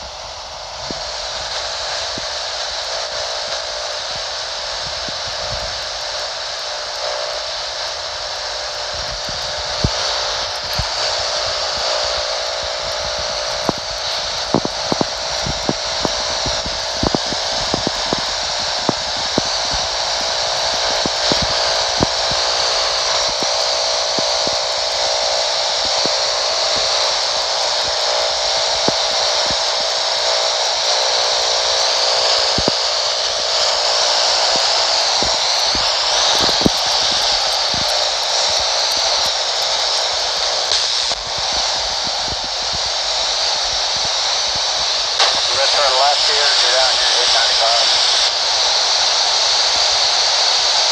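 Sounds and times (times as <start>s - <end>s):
radio crackles: 0.0s - 50.9s
radio static hiss: 0.0s - 50.9s.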